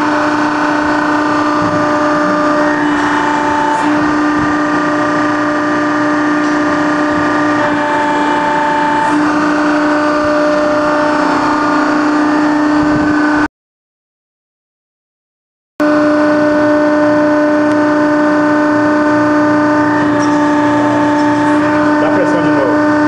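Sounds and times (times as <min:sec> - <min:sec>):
hydraulic pump hum and whine: 0:00.0 - 0:13.5, 0:15.8 - 0:23.0.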